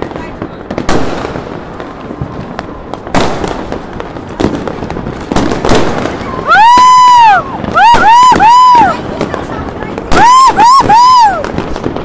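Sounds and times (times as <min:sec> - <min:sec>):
distant firework bursts: 0:00.0 - 0:12.0
firecracker bangs and crackles: 0:00.0 - 0:12.0.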